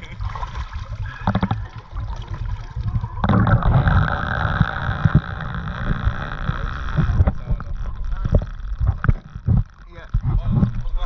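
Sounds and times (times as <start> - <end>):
water splashing around boat hull: 0.0 - 11.0.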